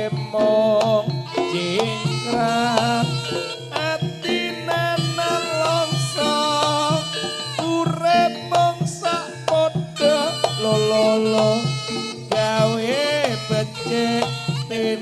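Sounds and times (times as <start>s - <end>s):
bending held melody: 0.0s - 15.0s
drum strokes: 0.0s - 15.0s.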